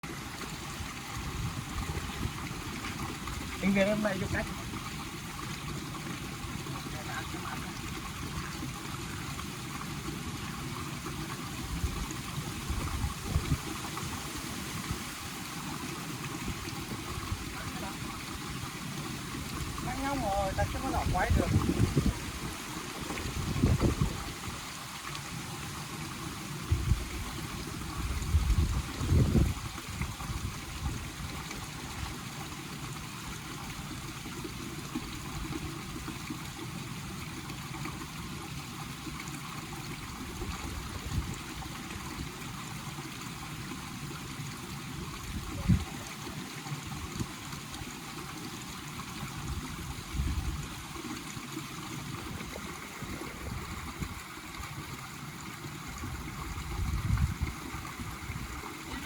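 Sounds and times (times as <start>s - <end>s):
stream rushing and trickling: 0.0s - 59.0s.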